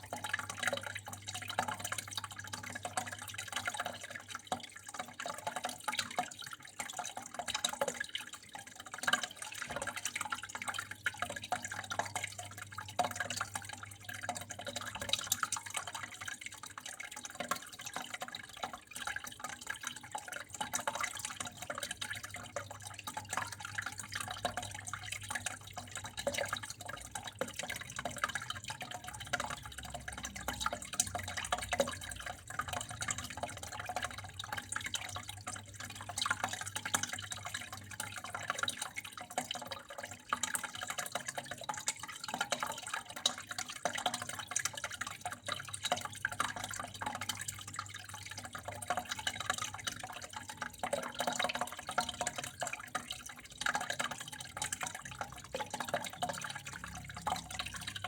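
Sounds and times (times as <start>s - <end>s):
drips and splashes: 0.0s - 58.0s
water running and trickling: 0.0s - 58.0s.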